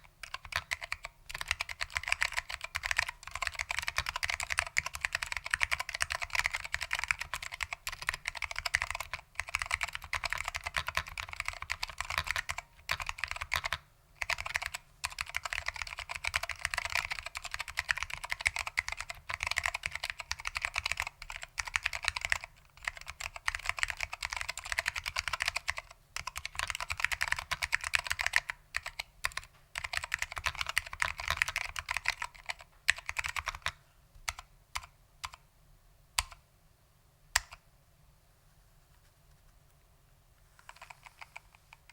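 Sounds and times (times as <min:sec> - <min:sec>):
fast typing on mechanical keyboard: 0:00.0 - 0:35.4, 0:40.6 - 0:41.9.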